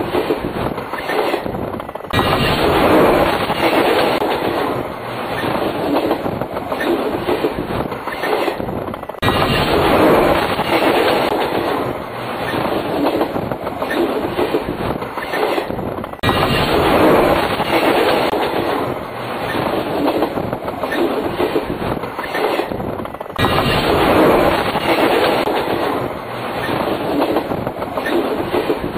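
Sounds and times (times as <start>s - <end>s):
train wheels clattering on rails: 0.0s - 28.9s.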